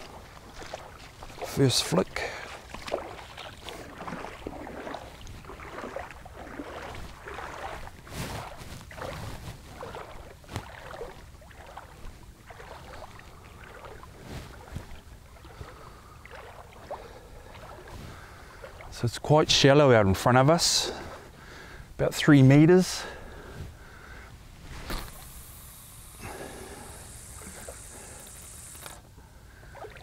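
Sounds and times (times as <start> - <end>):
legs wading through shallow water: 0.0 - 30.0.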